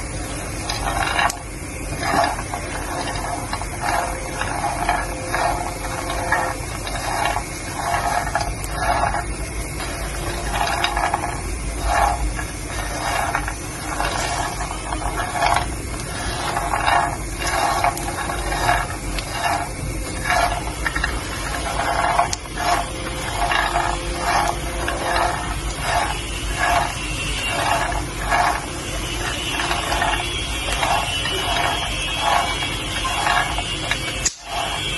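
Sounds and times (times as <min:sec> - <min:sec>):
peanuts rattling and scraping: 0:00.0 - 0:34.9.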